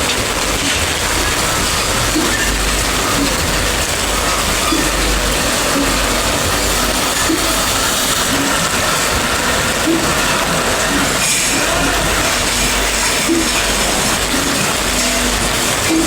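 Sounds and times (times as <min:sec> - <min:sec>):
train rumbling and rattling: 0:00.0 - 0:16.0.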